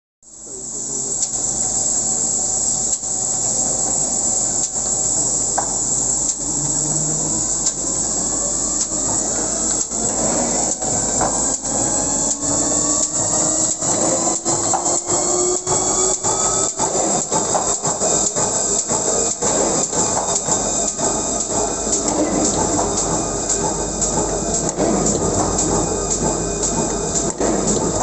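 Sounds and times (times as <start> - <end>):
paper sheeter hissing: 0.4 - 28.0.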